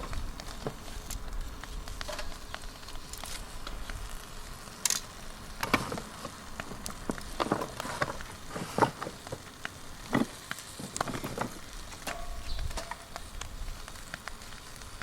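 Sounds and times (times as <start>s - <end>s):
low hiss: 0.0s - 15.0s
wood fire crackling and popping: 0.0s - 15.0s.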